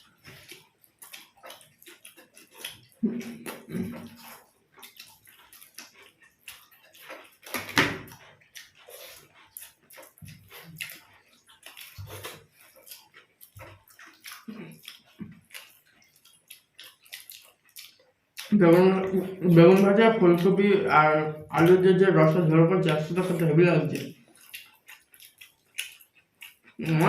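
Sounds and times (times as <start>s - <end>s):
people chewing food: 0.0s - 27.0s.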